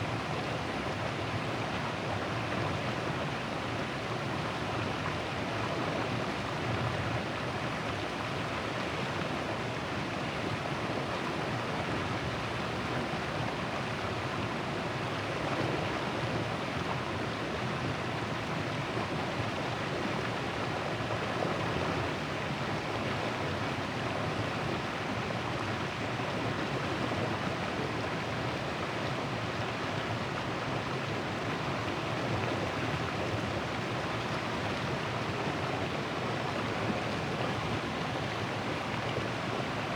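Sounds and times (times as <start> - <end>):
river water flowing: 0.2 - 39.9.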